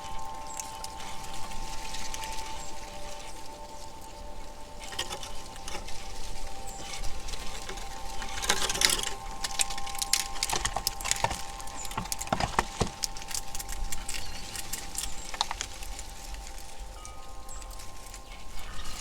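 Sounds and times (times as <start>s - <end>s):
squirrels scrabbling and gnawing: 0.0s - 19.0s.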